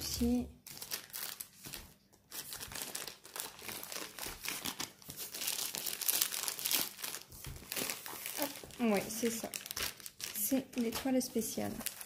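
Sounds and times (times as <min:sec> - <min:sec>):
plastic mailer bag crinkling: 0:00.2 - 0:12.0.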